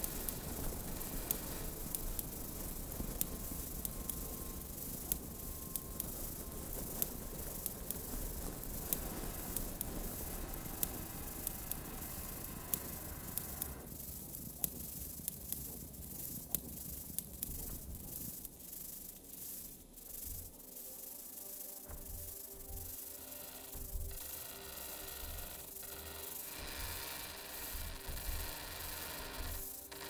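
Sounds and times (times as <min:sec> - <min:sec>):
hiss and rumble noise texture: 0:00.0 - 0:30.0
sharp irregular clicks: 0:00.0 - 0:30.0.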